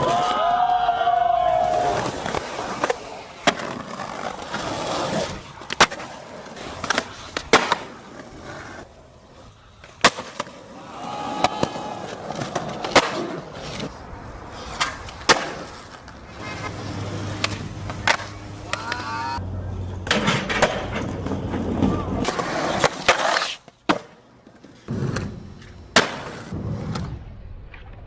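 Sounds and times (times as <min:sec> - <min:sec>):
skateboard wheels rolling: 0:00.0 - 0:28.0
skateboard clacking: 0:01.5 - 0:26.6.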